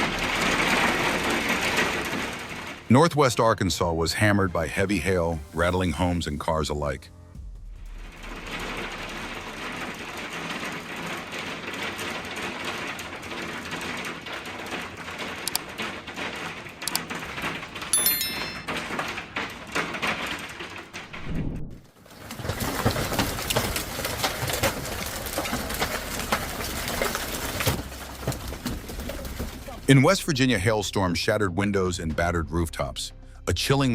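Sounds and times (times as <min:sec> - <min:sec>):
heavy hail pelting: 0:00.0 - 0:06.0, 0:07.8 - 0:18.0, 0:18.6 - 0:30.7.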